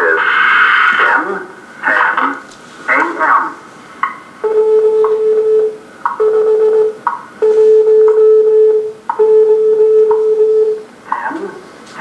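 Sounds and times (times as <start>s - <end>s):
steady radio tone: 0.0s - 8.3s, 10.2s - 12.0s.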